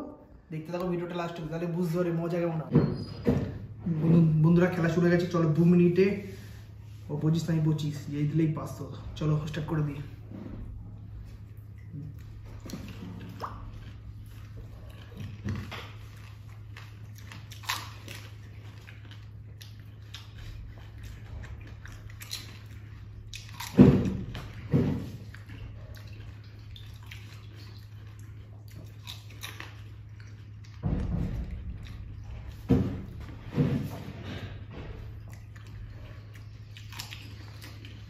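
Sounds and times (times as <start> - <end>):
steady low hum: 0.0 - 38.0
crunching and chewing: 3.6 - 38.0.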